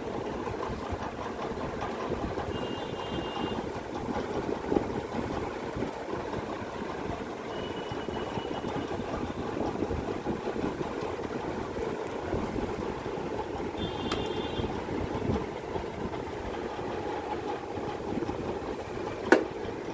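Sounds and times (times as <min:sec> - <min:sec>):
mechanical background hum: 0:00.0 - 0:19.9.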